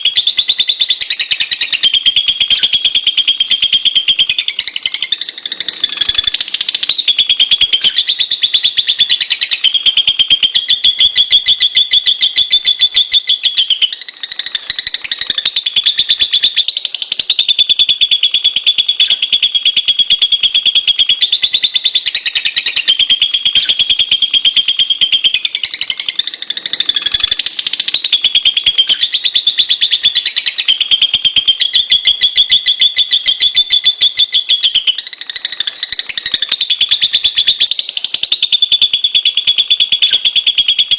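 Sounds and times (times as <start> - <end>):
bird chattering trill: 0.0 - 40.9.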